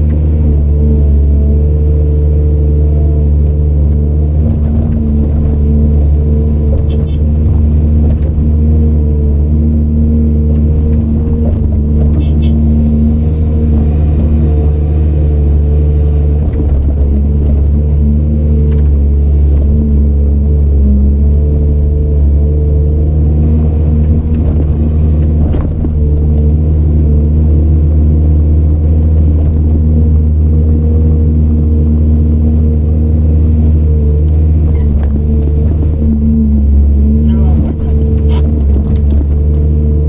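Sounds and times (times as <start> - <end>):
heavy diesel machinery running: 0.0 - 40.0.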